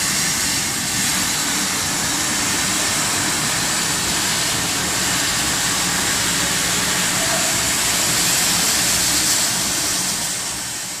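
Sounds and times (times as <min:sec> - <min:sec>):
locomotive steam hissing: 0:00.0 - 0:11.0.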